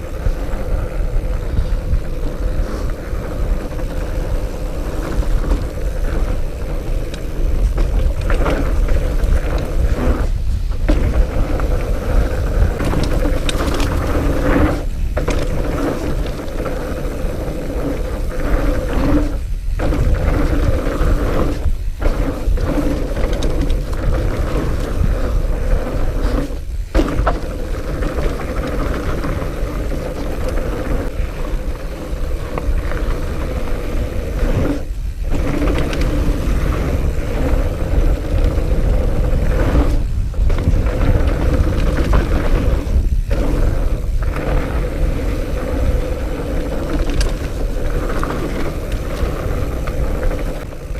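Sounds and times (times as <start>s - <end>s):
fat tires rolling over ground: 0.0s - 50.9s
wind rumble on microphone: 0.0s - 50.9s.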